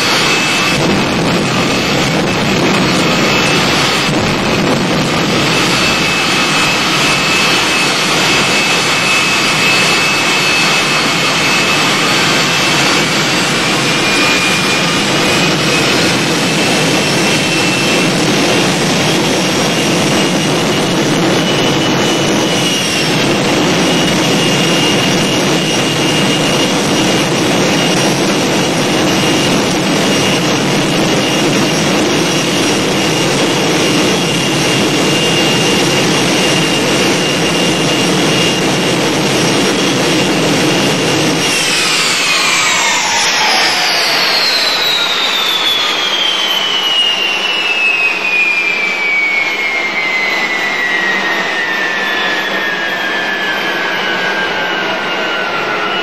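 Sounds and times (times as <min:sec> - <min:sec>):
jet engine running: 0:00.0 - 0:56.0.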